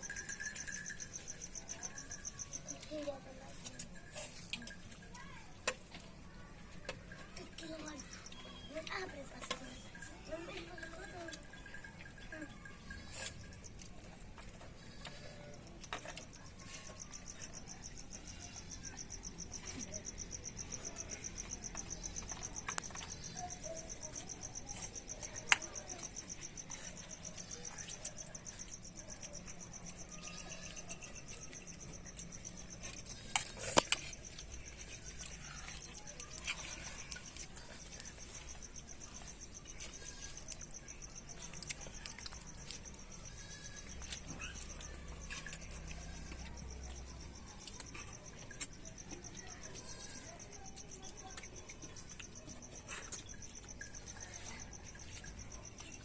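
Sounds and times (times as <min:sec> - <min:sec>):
crickets chirping: 0:00.0 - 0:05.8, 0:06.4 - 0:56.0.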